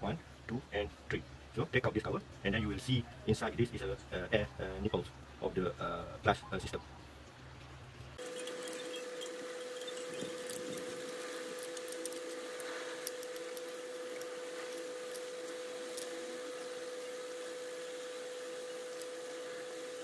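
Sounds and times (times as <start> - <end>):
background hum: 0.0 - 20.0.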